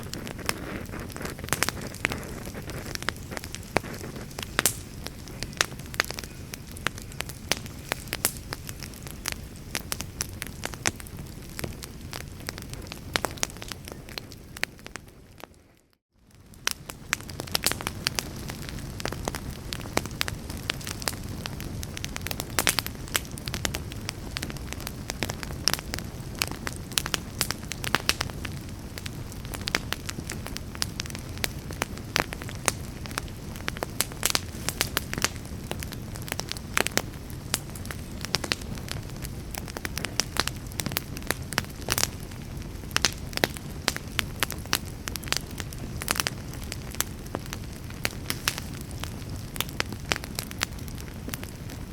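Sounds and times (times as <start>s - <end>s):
fire crackling and popping: 0.0s - 51.9s
low rumble of flame: 0.0s - 51.9s.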